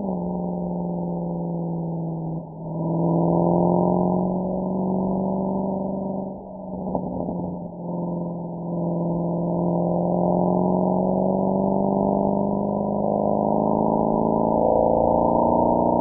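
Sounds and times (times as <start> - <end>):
car engine and exhaust revving: 0.0 - 16.0.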